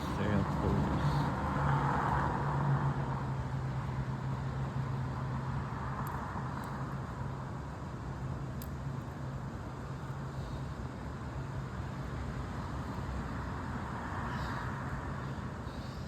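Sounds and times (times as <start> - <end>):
constant outdoor rush: 0.0 - 16.0.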